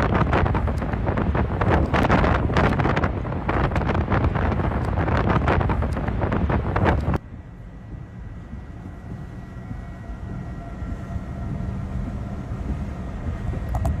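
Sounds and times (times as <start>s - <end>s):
tornado rumble: 0.0s - 14.0s.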